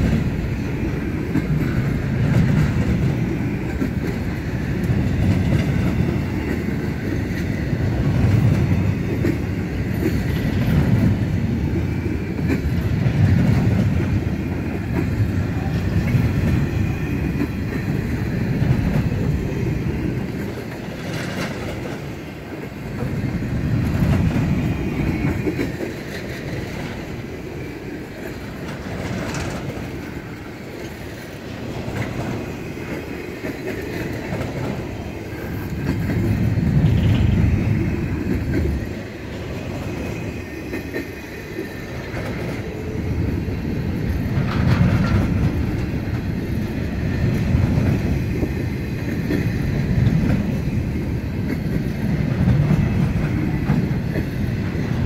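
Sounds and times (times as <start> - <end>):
train cars rumbling on rails: 0.0 - 55.0.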